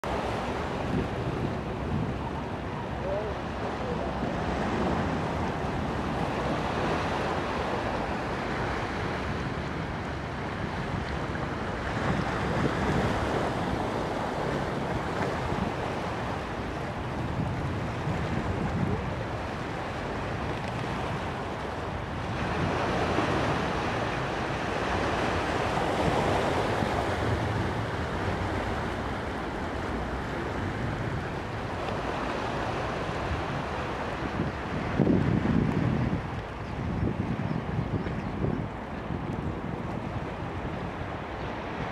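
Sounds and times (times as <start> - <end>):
surf washing over rocks: 0.0 - 41.9
wind buffeting microphone: 0.0 - 41.9.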